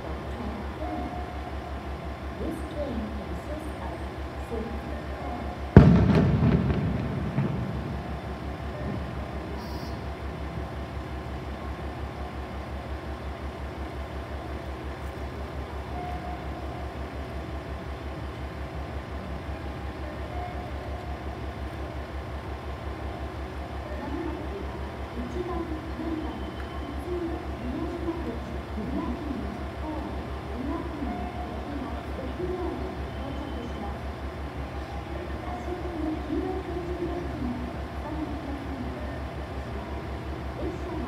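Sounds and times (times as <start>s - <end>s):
diesel railcar engine idling: 0.0s - 41.0s.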